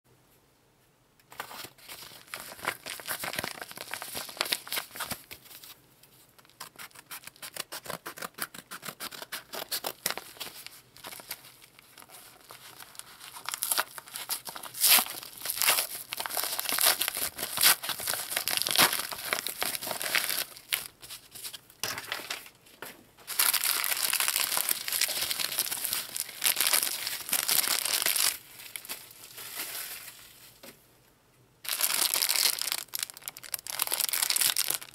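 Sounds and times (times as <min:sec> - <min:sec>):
plastic packaging crinkling and tearing: 0:01.4 - 0:21.6, 0:23.2 - 0:30.6, 0:31.6 - 0:34.9.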